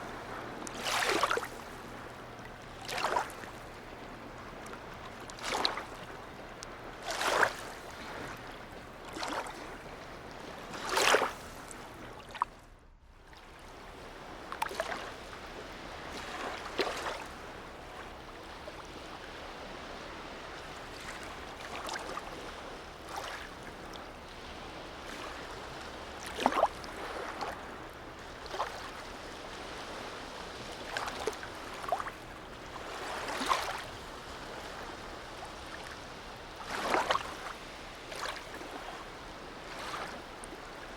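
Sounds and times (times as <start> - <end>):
low wash of water: 0.0 - 40.9
waves lapping and splashing: 0.0 - 40.9.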